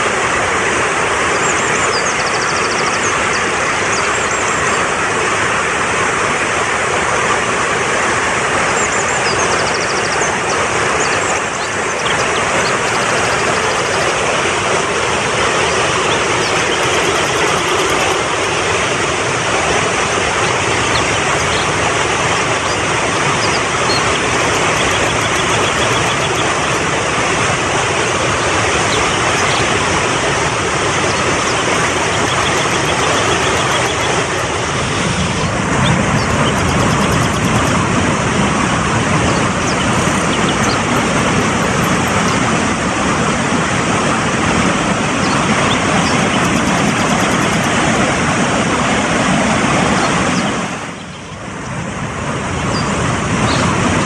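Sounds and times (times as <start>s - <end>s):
mountain stream rushing over rocks: 0.0s - 51.0s.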